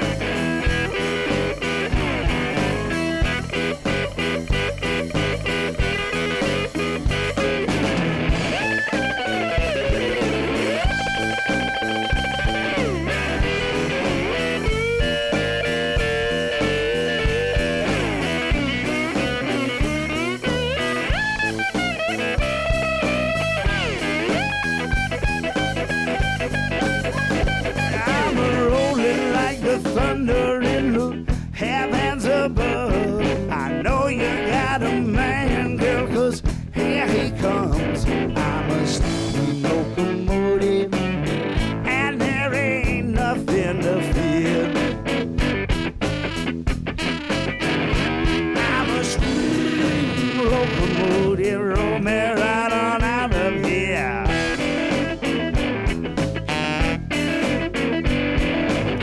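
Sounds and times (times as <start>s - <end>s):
bending lead guitar notes: 0.0s - 59.0s
blues guitar over steady beat: 0.0s - 59.0s.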